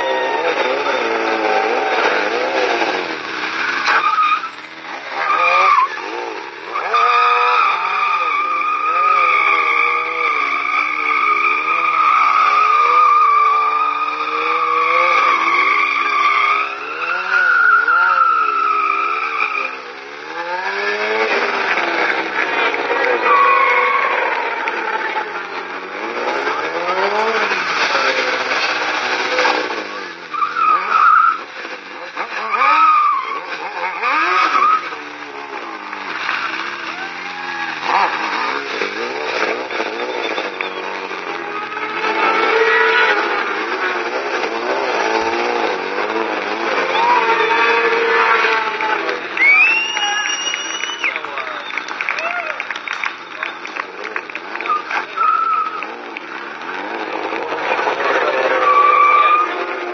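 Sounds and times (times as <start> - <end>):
motorcycle engine revving: 0.0 - 59.9
tyre squealing: 0.0 - 59.9.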